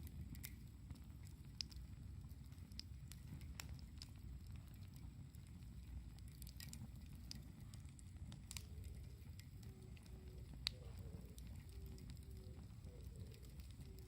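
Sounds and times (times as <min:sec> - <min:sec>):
campfire crackles and pops: 0:00.0 - 0:14.0
low fire rumble: 0:00.0 - 0:14.0.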